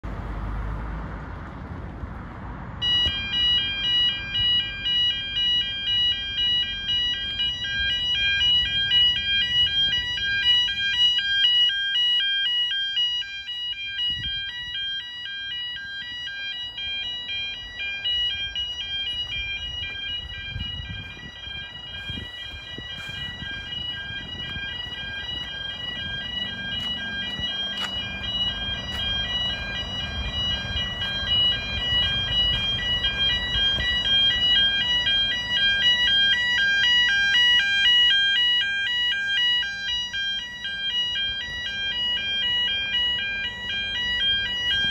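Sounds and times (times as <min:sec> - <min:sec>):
level crossing alarm pulses: 0:02.8 - 0:44.9.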